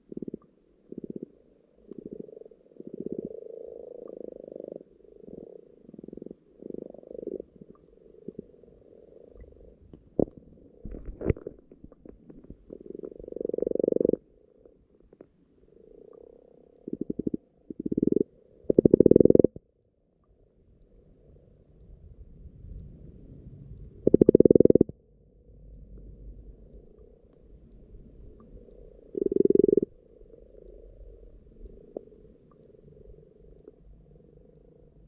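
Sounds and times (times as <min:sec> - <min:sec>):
frogs croaking underwater: 0:00.0 - 0:19.8, 0:24.0 - 0:25.0, 0:26.6 - 0:35.0.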